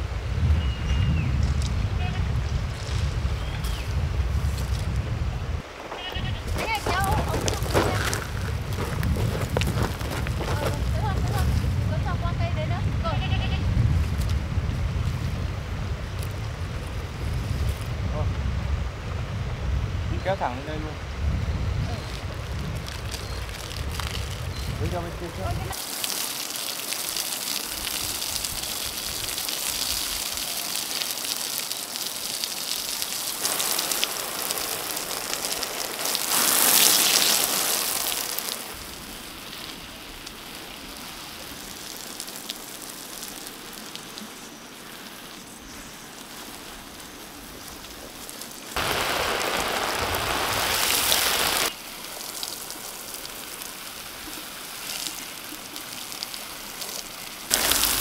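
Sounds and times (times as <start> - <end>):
garden hose spraying water: 5.6 - 17.9, 21.8 - 58.0.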